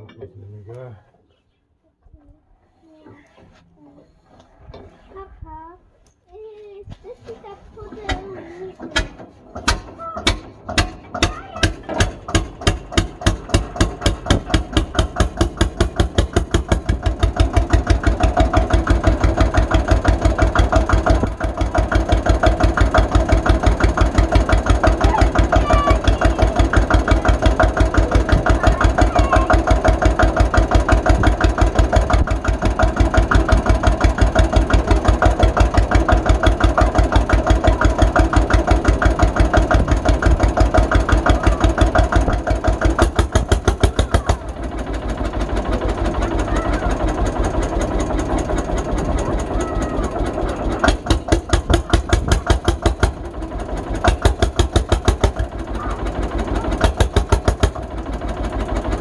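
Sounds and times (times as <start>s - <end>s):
tractor engine slow firing beat: 7.9s - 59.0s.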